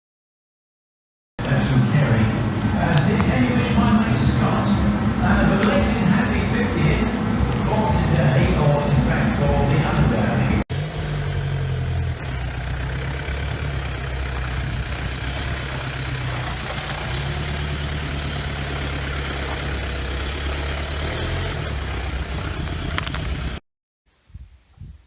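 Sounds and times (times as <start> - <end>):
pickup engine idling: 1.4 - 23.6.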